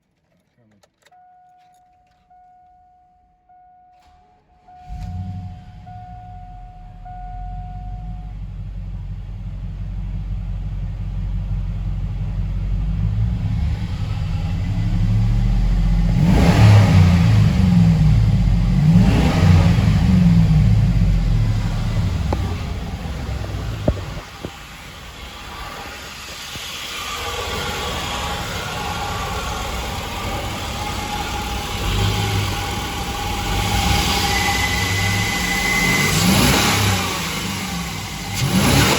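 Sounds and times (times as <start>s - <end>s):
engine revving: 4.8s - 38.9s.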